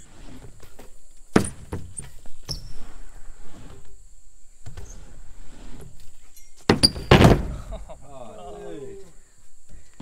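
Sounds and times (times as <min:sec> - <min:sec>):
faint insect drone: 0:00.0 - 0:10.0.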